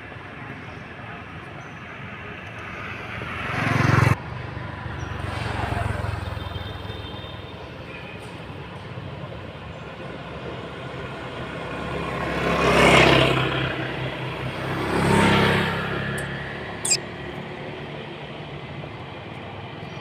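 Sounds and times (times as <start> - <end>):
vehicles passing by: 0.0 - 20.0.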